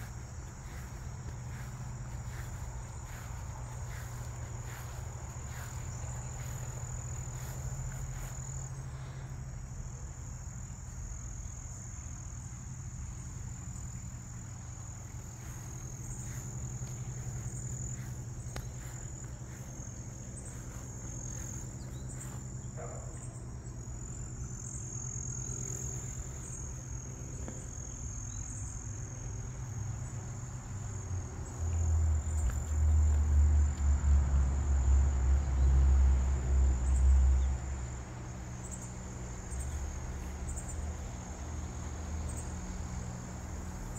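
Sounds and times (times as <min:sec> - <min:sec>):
insects trilling: 0:00.0 - 0:43.9
low steady hum: 0:00.0 - 0:43.9.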